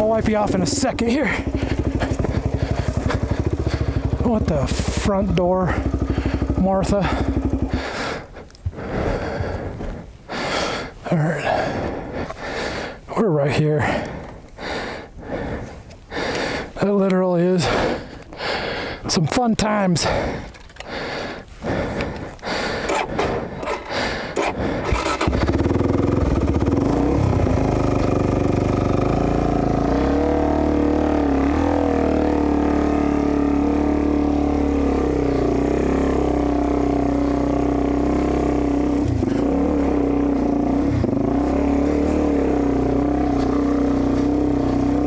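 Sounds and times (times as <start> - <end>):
dirt bike engine running: 0.0 - 9.7, 17.6 - 45.0.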